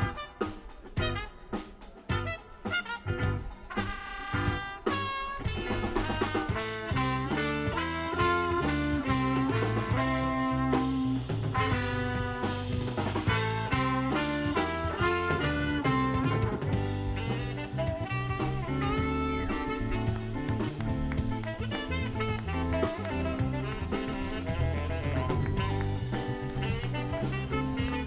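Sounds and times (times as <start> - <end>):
funk band playing: 0.0 - 28.0.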